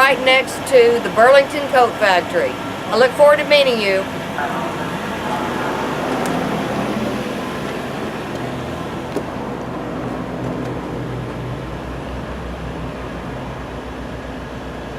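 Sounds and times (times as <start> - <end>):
low mechanical hum: 0.0 - 14.9
rushing noise: 0.0 - 14.9.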